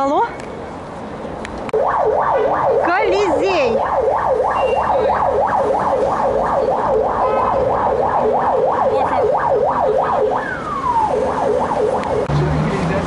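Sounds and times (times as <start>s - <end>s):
electronic siren yelping: 1.8s - 12.3s.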